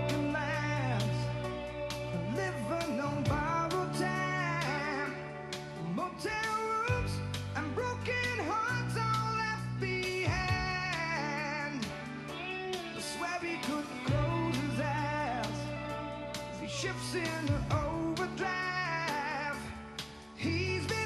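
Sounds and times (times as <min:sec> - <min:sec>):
guitar backing: 0:00.0 - 0:21.0
person singing: 0:00.0 - 0:21.0.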